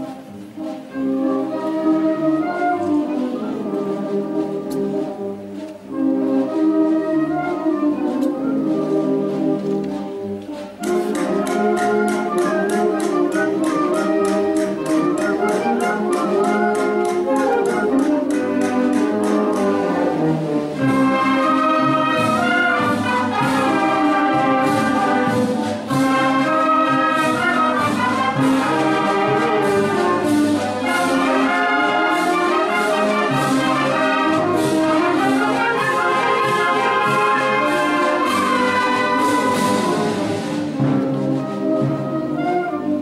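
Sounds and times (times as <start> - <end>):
trumpets and trombones melody: 0.0 - 43.0
wind band playing: 0.0 - 43.0
steady march beat: 2.8 - 42.7.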